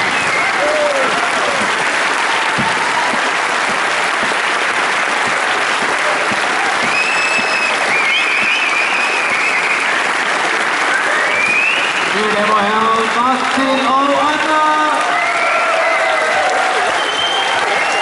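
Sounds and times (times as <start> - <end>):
audience applauding: 0.0 - 18.0
crowd cheering: 0.0 - 18.0.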